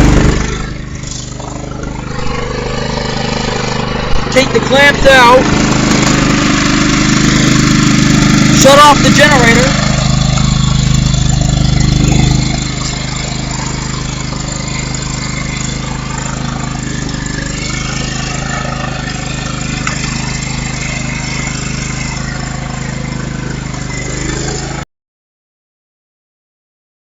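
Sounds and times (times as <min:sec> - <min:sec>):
lawn tractor engine idling: 0:00.0 - 0:24.8.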